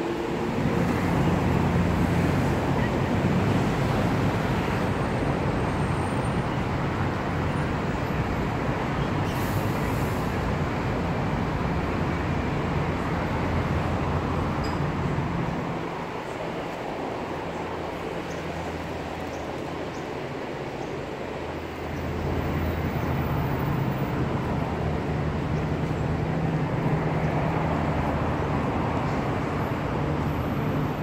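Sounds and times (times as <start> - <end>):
city road traffic: 0.0 - 31.0.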